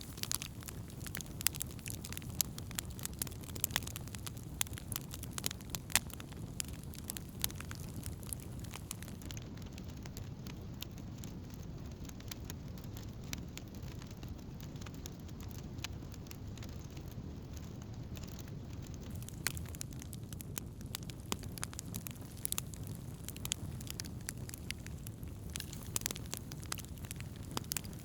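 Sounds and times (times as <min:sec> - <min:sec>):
campfire crackles and pops: 0:00.0 - 0:28.0
low fire rumble: 0:00.0 - 0:28.0.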